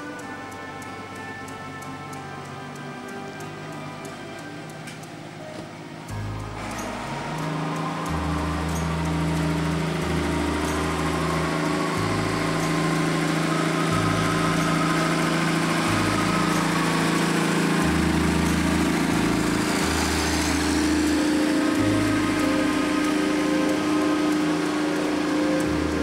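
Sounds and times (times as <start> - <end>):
truck engine driving past: 0.0 - 26.0.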